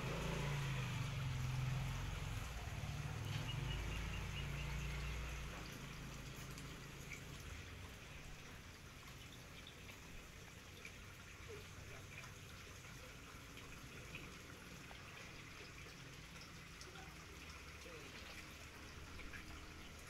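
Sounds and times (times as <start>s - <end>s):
water trickling in pond: 0.0s - 20.0s.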